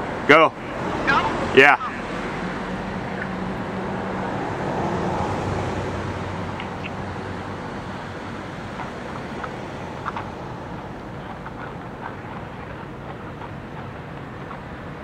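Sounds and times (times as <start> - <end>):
road traffic noise: 0.0 - 15.0
vehicle passing: 0.0 - 15.0.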